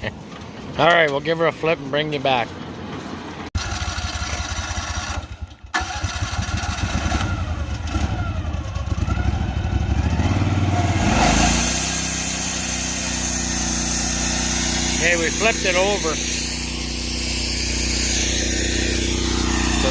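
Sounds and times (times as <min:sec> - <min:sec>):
gasoline engine throbbing: 0:03.6 - 0:19.9.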